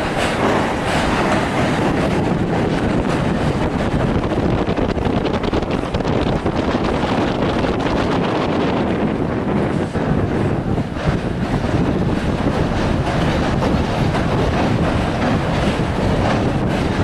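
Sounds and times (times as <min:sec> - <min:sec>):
wheels clicking over rail joints: 0:00.0 - 0:07.8, 0:09.9 - 0:17.0
train wheels rumbling on rail: 0:00.0 - 0:17.0
wind on microphone: 0:00.0 - 0:17.0.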